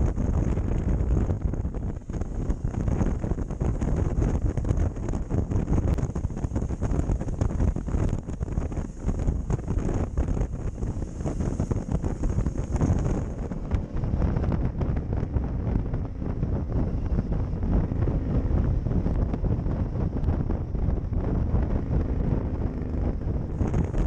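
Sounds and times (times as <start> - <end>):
motorcycle engine running: 0.0 - 24.0
road noise: 0.0 - 24.0
wind buffeting microphone: 0.0 - 24.0.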